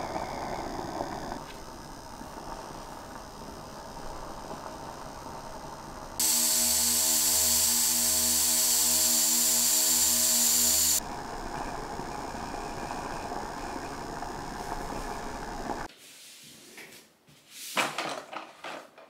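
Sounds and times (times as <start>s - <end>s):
electric appliance motor hum: 0.0s - 15.9s.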